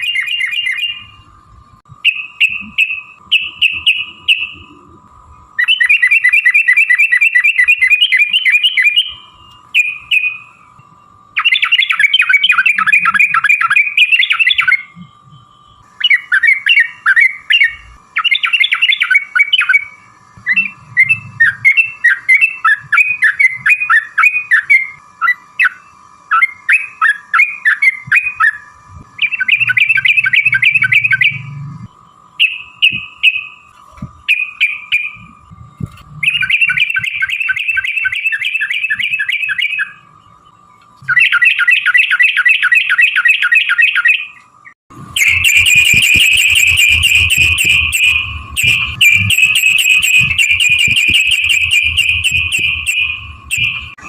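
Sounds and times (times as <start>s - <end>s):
faint steady tone: 0.0s - 54.0s
bird singing rolling runs: 5.5s - 53.9s.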